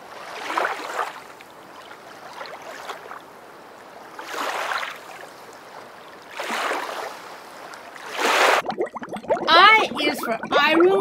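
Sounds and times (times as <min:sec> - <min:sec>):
water sloshing and lapping: 0:00.0 - 0:11.0.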